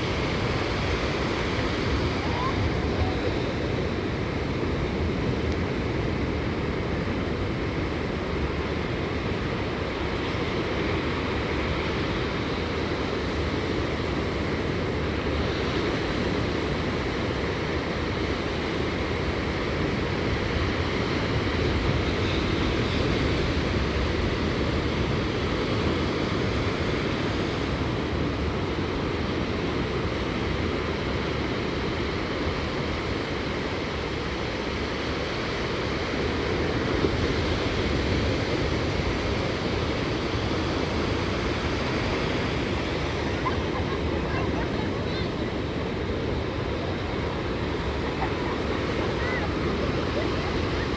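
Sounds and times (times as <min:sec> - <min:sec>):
gentle ocean surf: 0:00.0 - 0:50.9.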